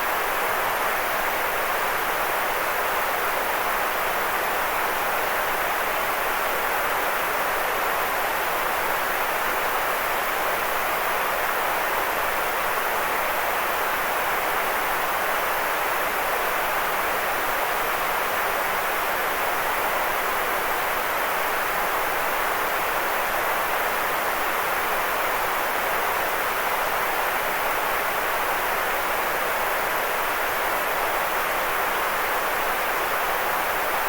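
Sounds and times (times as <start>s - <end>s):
white noise hiss: 0.0s - 34.0s.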